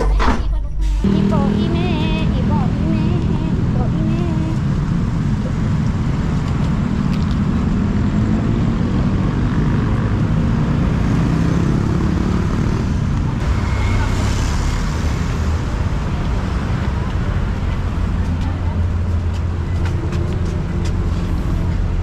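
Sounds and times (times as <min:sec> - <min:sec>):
motor vehicle rumbling: 0:00.0 - 0:22.0
road traffic noise: 0:00.0 - 0:22.0.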